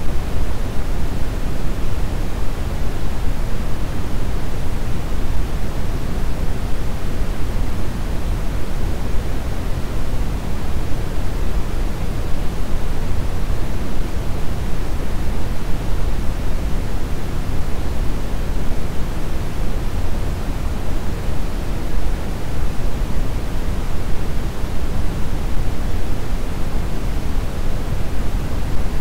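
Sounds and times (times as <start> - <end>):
brown noise rushing hiss: 0.0 - 29.0.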